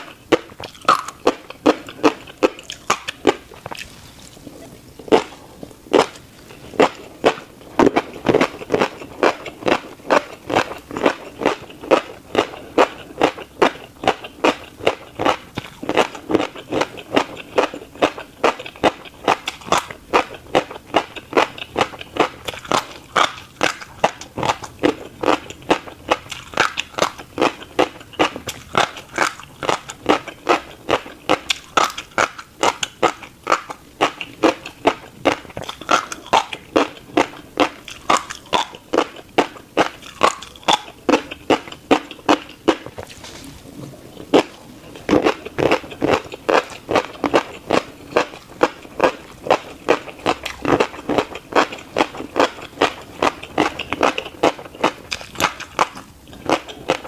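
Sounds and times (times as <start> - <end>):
chewing crunchy seeds: 0.0 - 57.0.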